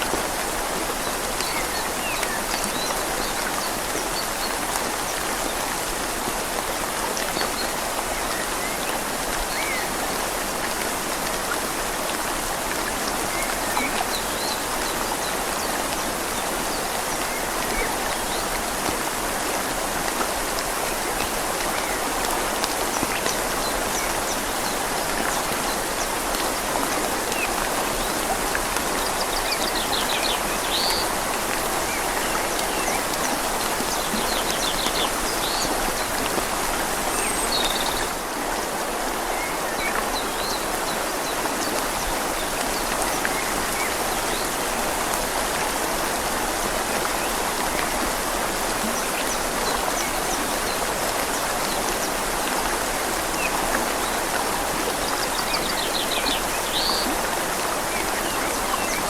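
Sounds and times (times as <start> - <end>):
rain falling on leaves: 0.0 - 59.0
river flowing: 0.0 - 59.0.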